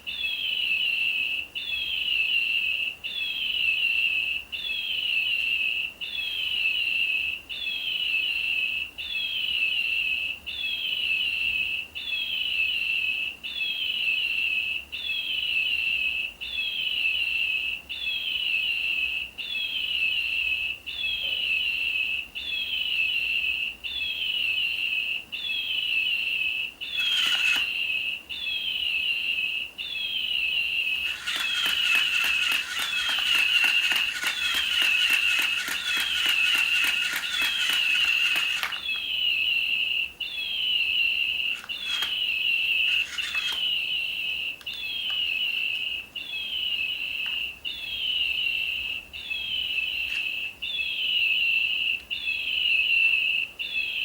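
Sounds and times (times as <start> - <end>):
electronic toy bird chirping: 0.1 - 54.0.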